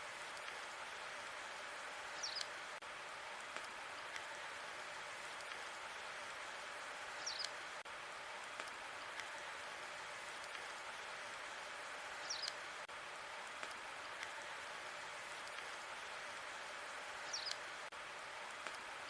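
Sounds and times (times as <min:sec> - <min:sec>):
log fire crackling: 0:00.1 - 0:19.0.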